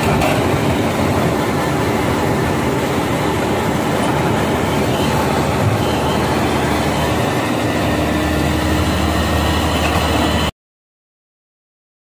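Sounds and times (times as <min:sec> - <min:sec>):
diesel engine running: 0:00.0 - 0:10.5.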